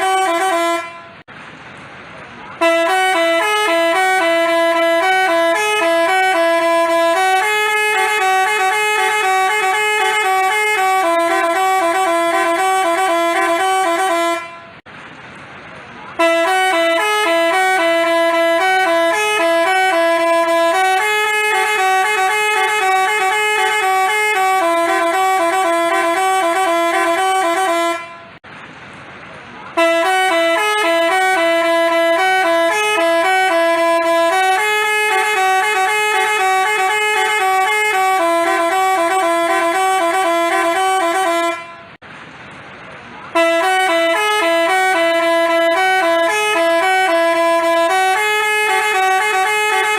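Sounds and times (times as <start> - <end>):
multi-tone bus horn tune: 0.0 - 1.3, 2.4 - 14.9, 16.1 - 28.4, 29.7 - 42.0, 43.3 - 49.9.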